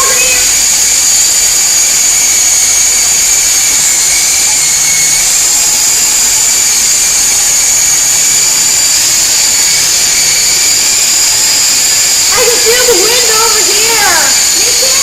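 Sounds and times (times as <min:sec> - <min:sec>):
toy helicopter rotor whine: 0:00.0 - 0:15.0.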